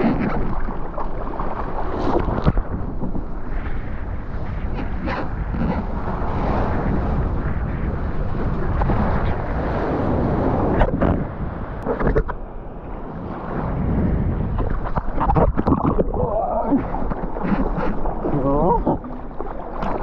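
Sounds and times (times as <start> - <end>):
rushing ocean water: 0.0 - 20.0
wind on microphone: 0.0 - 20.0.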